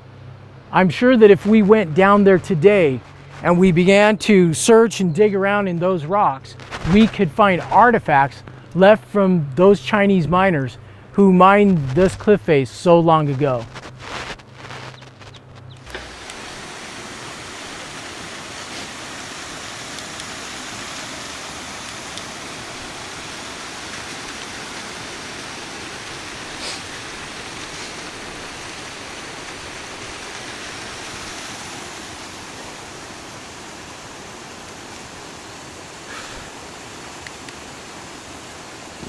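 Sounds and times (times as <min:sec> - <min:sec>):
steady rushing noise: 0:00.0 - 0:39.0.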